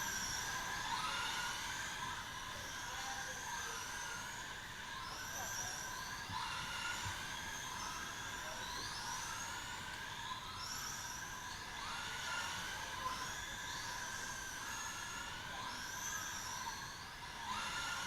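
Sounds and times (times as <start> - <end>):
rc car motors whining: 1.8 - 18.0.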